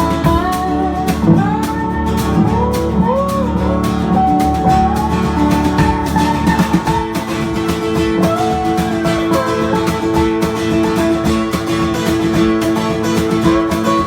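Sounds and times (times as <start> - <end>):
lead acoustic guitar sliding notes: 0.0 - 14.0
strummed rhythm guitar: 0.0 - 14.0.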